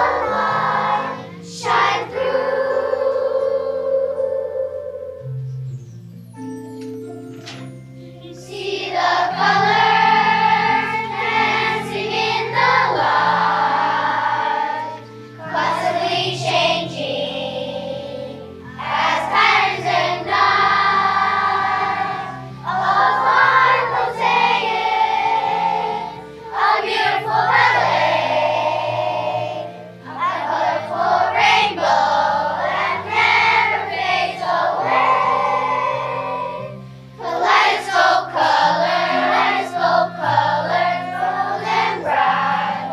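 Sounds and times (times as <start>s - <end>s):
children's choir singing: 0.0s - 5.6s, 7.4s - 42.9s
instrumental accompaniment: 0.0s - 42.9s.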